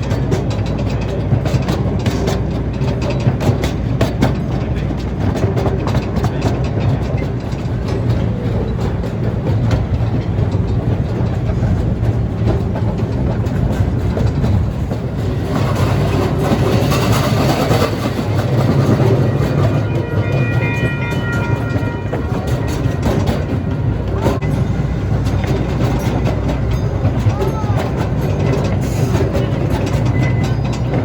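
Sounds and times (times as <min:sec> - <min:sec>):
small train rumbling on track: 0:00.0 - 0:31.0
wheels clicking over rail joints: 0:00.0 - 0:31.0.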